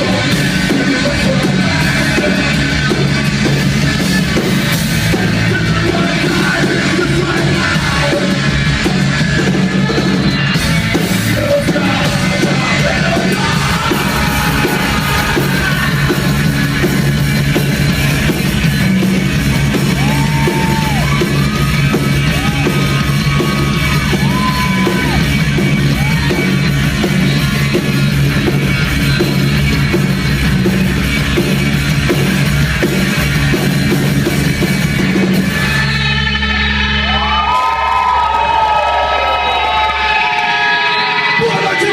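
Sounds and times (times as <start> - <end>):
heavy metal band playing: 0.0 - 41.9.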